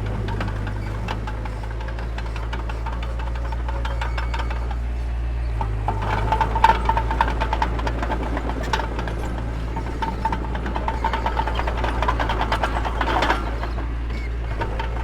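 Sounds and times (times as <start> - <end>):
bulldozer diesel engine running: 0.0 - 15.0
rapid metallic clatter: 0.0 - 15.0.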